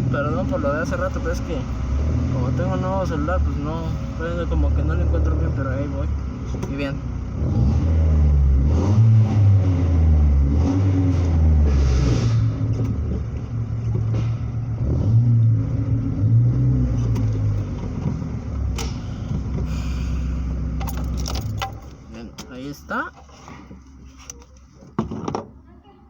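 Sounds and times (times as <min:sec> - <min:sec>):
car engine exhaust rumble revving: 0:00.0 - 0:22.2.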